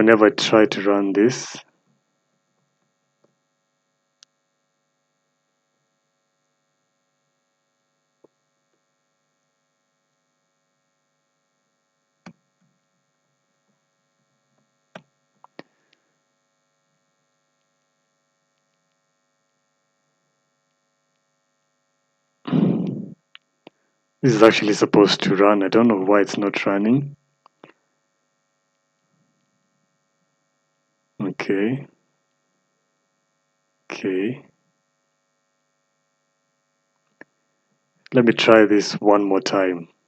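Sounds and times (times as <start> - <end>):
faint electrical hum: 0.0 - 40.0.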